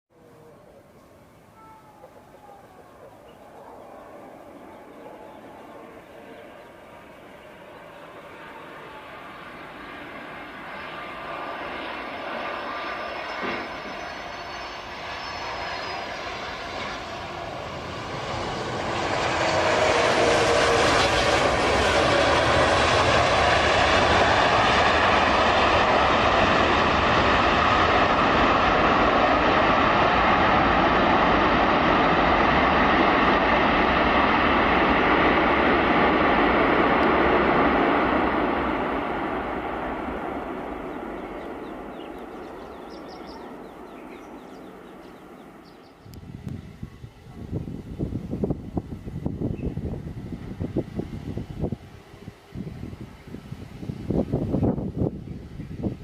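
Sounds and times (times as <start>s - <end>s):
gliding engine whine: 0.2s - 55.9s
jet engine roar: 2.3s - 56.0s.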